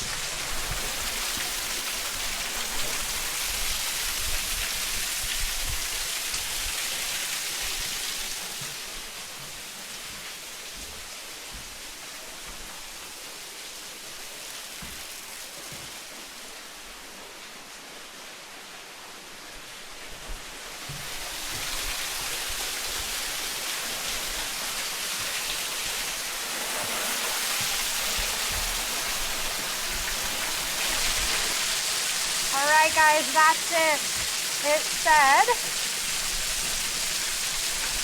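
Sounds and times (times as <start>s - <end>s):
waterfall splashing onto rock: 0.0s - 16.9s, 20.3s - 38.0s.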